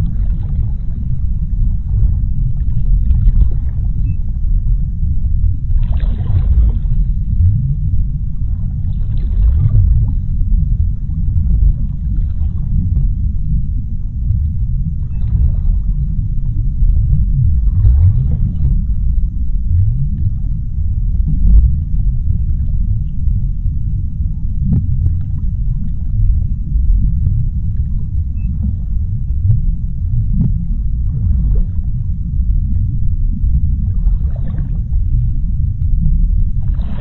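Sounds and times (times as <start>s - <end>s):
underwater sea rumble: 0.0s - 37.0s.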